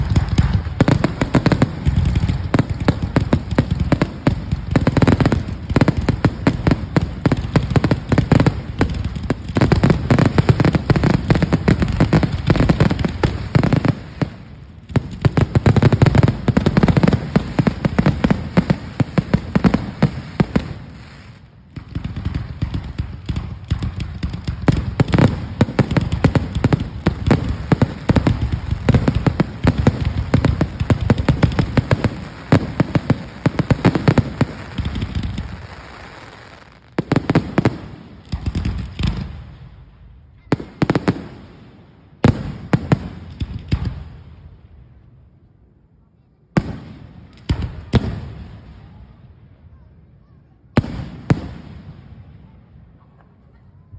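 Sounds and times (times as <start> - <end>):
fireworks bangs and crackles: 0.0 - 45.2, 46.1 - 53.9.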